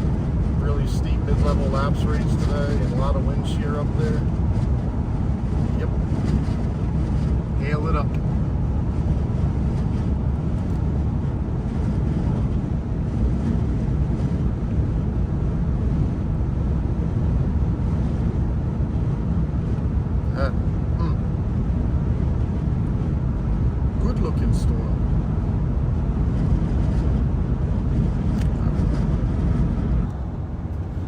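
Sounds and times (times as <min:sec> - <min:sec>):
road and wind noise in car: 0:00.0 - 0:31.0.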